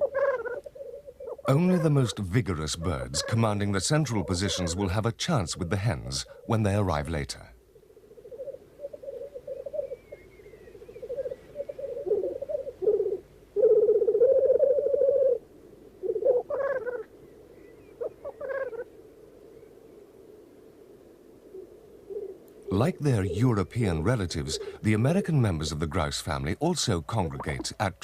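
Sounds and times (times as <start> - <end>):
grouse bubbling coo: 0.0 - 7.2, 7.8 - 17.1, 17.8 - 19.0, 21.4 - 26.1, 27.2 - 27.8.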